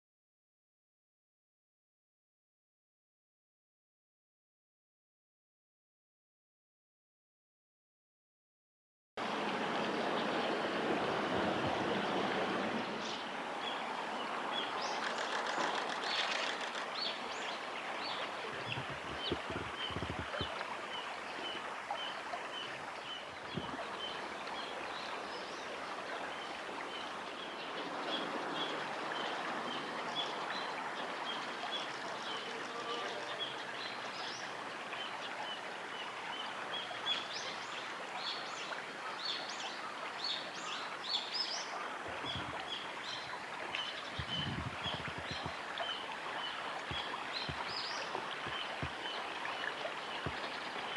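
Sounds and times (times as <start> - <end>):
stream water flowing: 9.2 - 50.9.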